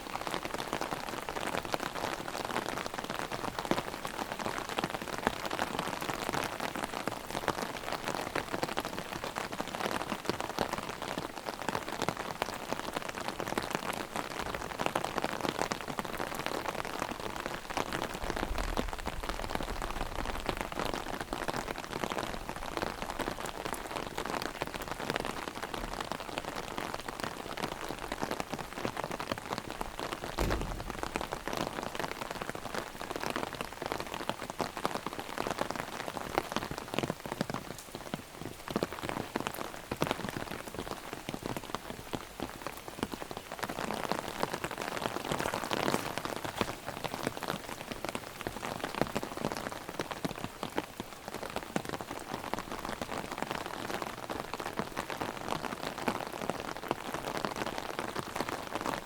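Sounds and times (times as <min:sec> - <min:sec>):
heavy rain on umbrella: 0:00.0 - 0:59.0.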